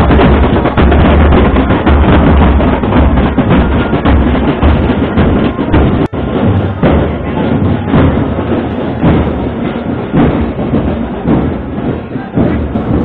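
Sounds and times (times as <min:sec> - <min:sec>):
barrel drums beaten fast: 0:00.0 - 0:13.0.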